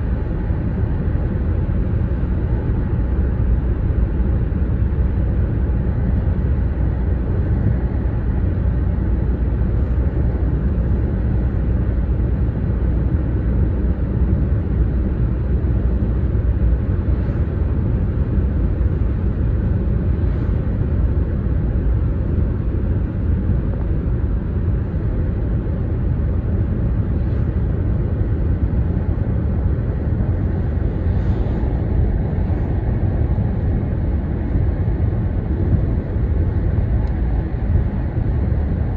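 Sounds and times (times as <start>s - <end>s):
low rumble from bridge: 0.0s - 38.9s.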